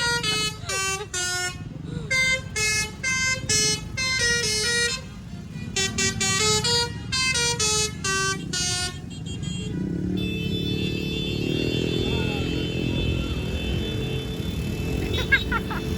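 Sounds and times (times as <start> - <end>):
bus musical horn tune: 0.0 - 14.6.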